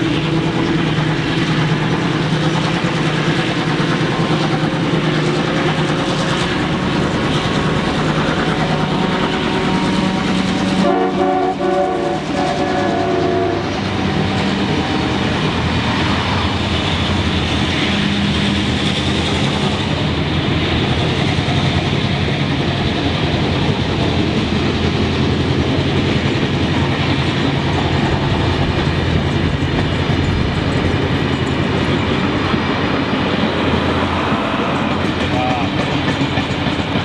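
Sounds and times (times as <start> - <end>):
train wheels clattering on rails: 0.0 - 37.0.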